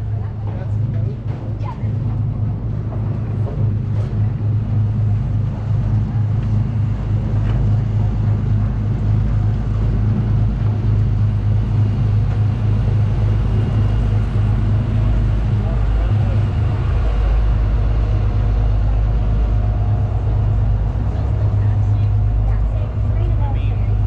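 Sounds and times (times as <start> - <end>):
ferry engine low drone: 0.0 - 24.0.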